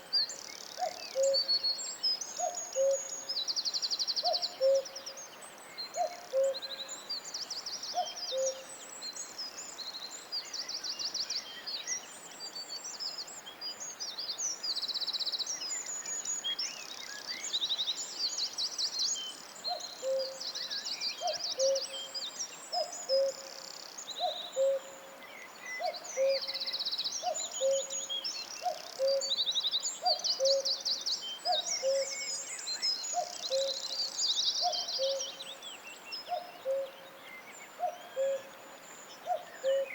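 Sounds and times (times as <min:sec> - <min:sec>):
songbirds trilling and chirping: 0:00.0 - 0:39.9.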